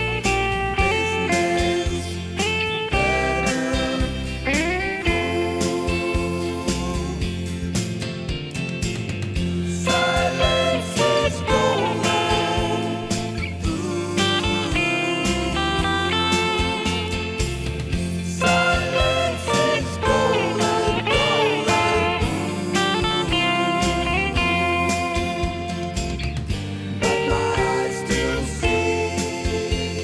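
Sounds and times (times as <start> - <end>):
electric guitar melody: 0.0 - 5.3, 8.3 - 29.5
drums and bass backing: 0.0 - 30.0.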